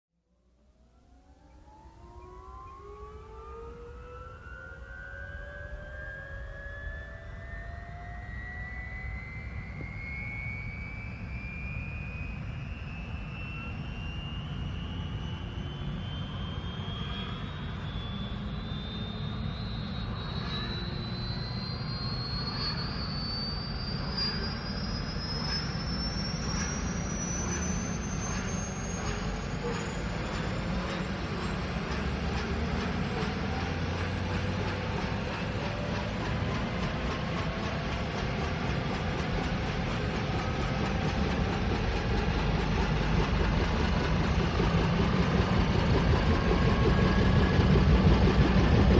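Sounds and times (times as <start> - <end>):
helicopter turbine whine: 0.5 - 48.9.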